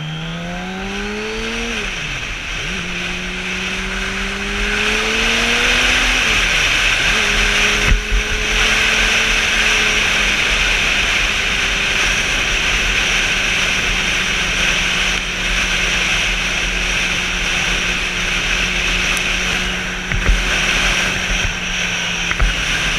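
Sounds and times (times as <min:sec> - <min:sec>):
motorcycle engine running: 0:00.0 - 0:22.9
wind rush: 0:00.7 - 0:22.9.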